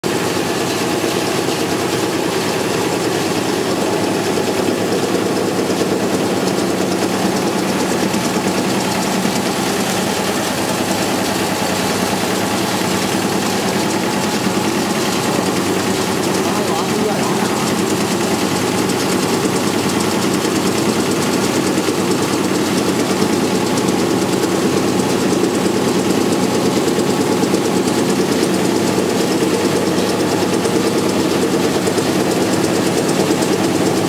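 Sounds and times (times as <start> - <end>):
low machine hum: 0.1 - 34.0
shaking screener machine: 0.1 - 34.0.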